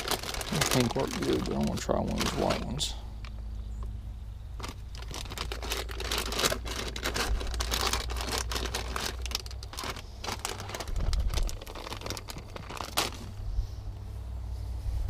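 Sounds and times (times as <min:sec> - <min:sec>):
plastic bags crinkling and rustling: 0:00.0 - 0:03.4, 0:04.6 - 0:13.4.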